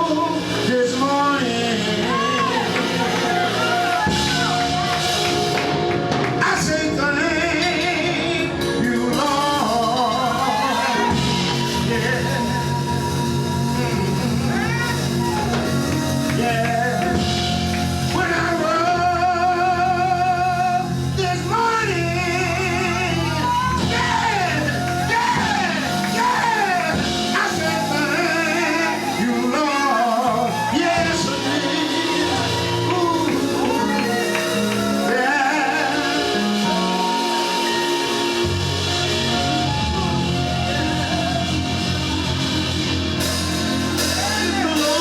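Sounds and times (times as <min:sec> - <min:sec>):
held instrumental chords: 0:00.0 - 0:45.0
low bass line: 0:00.0 - 0:45.0
person singing with vibrato: 0:00.0 - 0:45.0.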